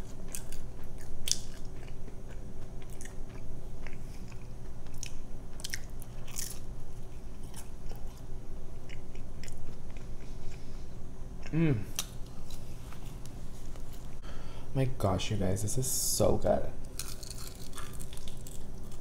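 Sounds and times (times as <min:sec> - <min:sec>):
crunchy chewing of pizza crust: 0:00.0 - 0:14.0, 0:16.8 - 0:19.0.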